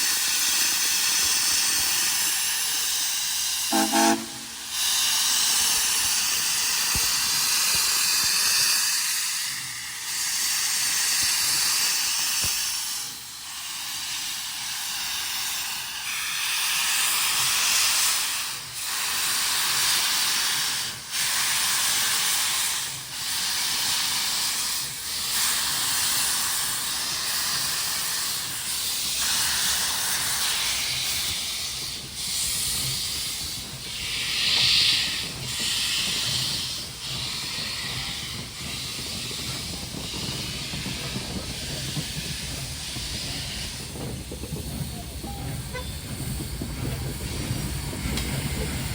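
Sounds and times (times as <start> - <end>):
locomotive steam hissing: 0.0 - 48.9.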